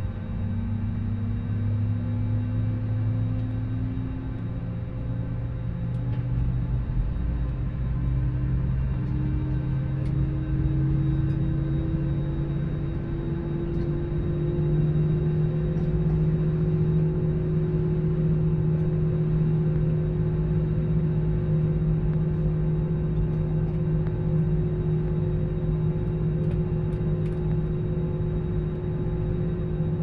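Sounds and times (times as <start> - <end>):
jet airliner cabin drone: 0.0 - 30.0.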